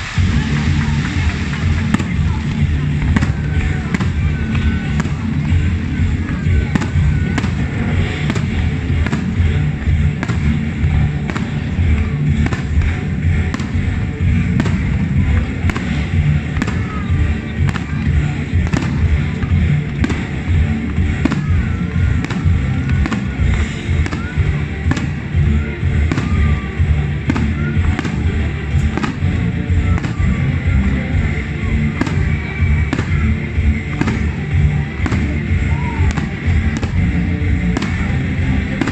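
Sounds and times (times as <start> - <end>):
fireworks bursting: 0.0 - 38.9
loud music: 0.0 - 38.9.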